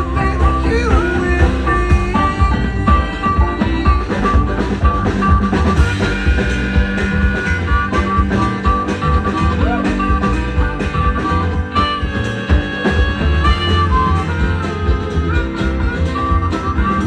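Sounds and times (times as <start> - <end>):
live band playing: 0.0 - 17.0
steady low beat: 0.0 - 17.0.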